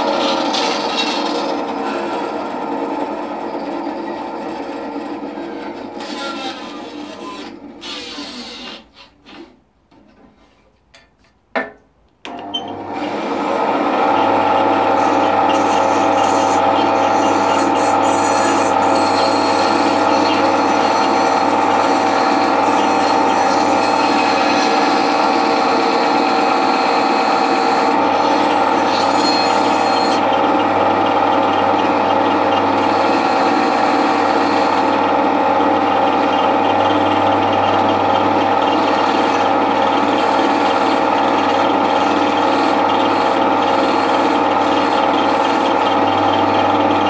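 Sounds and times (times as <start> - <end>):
bandsaw humming: 0.0 - 3.8, 12.3 - 47.0.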